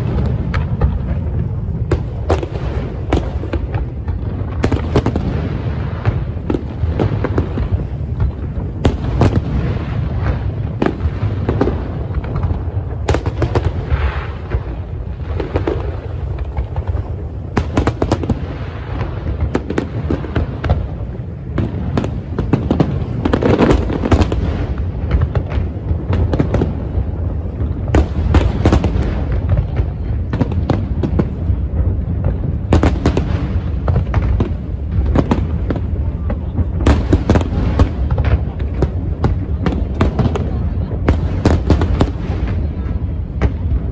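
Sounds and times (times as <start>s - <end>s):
heavy low rumble: 0.0s - 43.9s.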